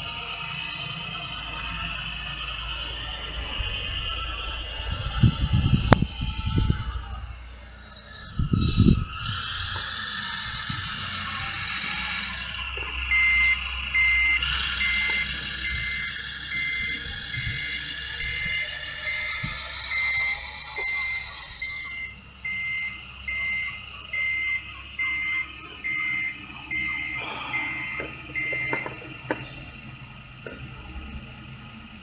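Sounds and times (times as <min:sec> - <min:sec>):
truck reversing beeper: 0:00.0 - 0:06.1, 0:06.9 - 0:32.0
simulated diesel engine running: 0:00.0 - 0:32.0.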